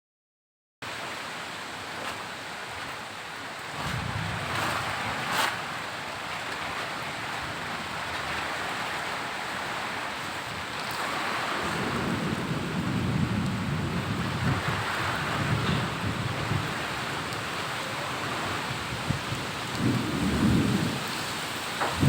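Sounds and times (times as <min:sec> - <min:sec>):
heavy rain hissing: 0:00.8 - 0:22.0.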